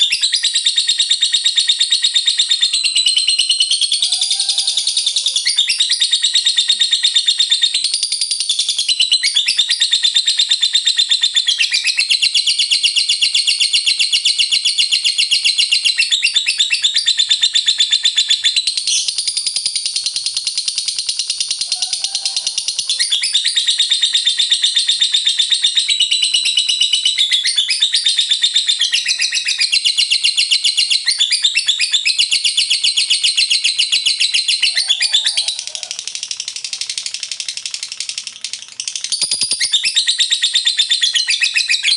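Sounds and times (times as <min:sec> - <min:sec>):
lovebird chattering trill: 0:00.0 - 0:41.9.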